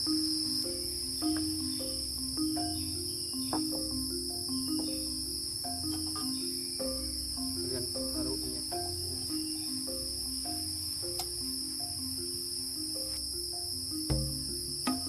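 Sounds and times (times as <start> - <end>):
forest insects droning: 0.0 - 15.0
soft background music with bass: 0.0 - 15.0.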